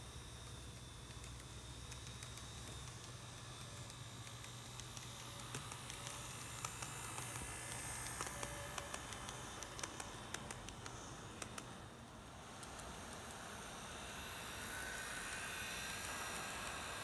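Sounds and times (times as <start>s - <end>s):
model train motor hum: 0.0s - 17.0s.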